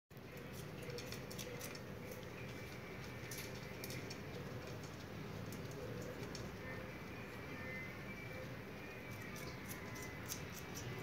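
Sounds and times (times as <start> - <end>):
faint steady hum: 0.1 - 11.0
guinea pig nibbling: 0.1 - 11.0.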